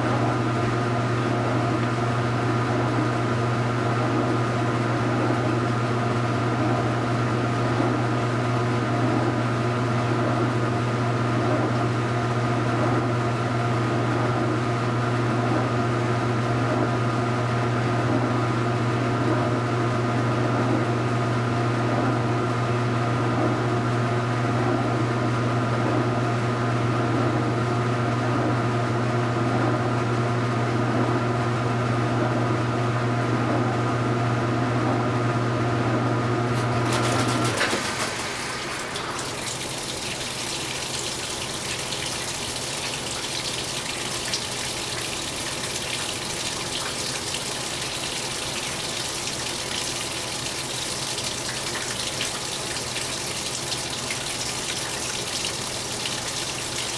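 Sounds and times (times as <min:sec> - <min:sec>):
washing machine motor hum: 0:00.0 - 0:56.9.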